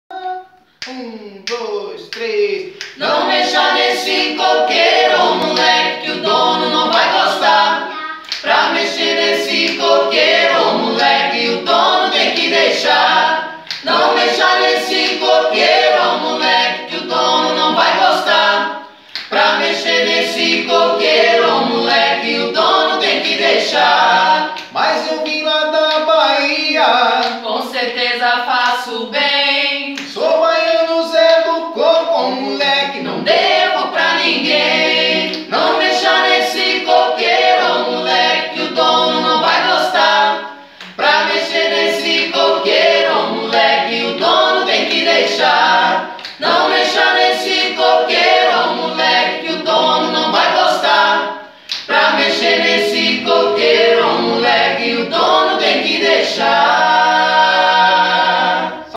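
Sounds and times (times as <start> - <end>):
group singing a cappella: 1.5 - 58.9.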